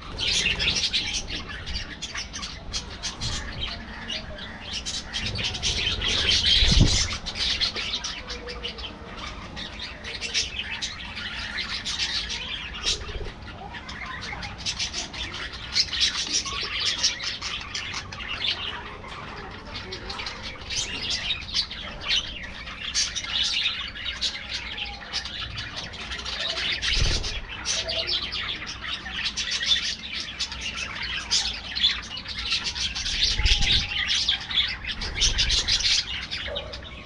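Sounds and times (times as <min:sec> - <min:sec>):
budgerigars chattering: 0:00.0 - 0:37.0.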